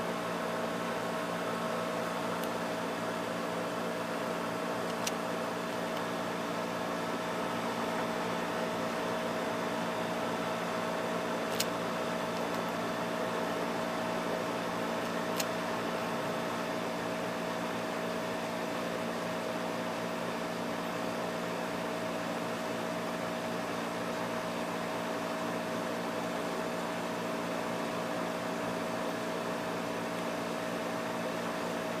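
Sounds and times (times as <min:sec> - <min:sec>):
air conditioner running: 0:00.0 - 0:32.0.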